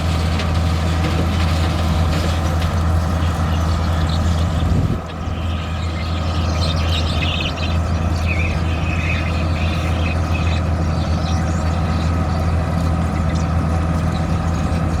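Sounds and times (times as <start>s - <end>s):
machinery engine humming: 0.0s - 15.0s.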